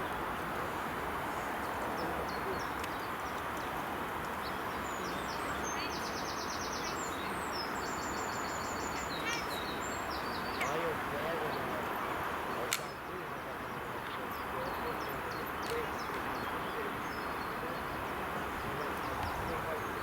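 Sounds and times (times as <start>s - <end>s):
small birds chirping: 1.8s - 10.9s, 12.5s - 20.0s.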